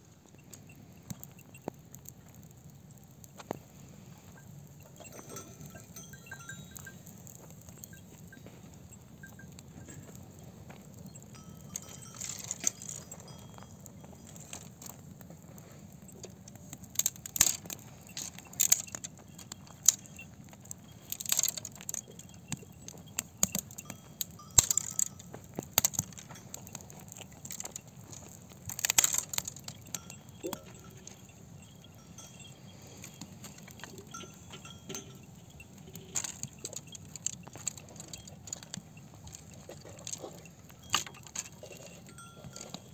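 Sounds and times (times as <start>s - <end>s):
dry brushwood snapping and crackling: 0.4s - 8.7s, 9.5s - 31.2s, 33.0s - 42.9s.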